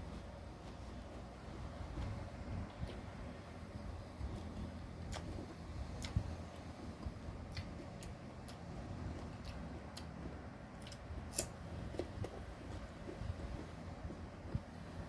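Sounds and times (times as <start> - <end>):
person chewing crisp mango: 0.7 - 15.0.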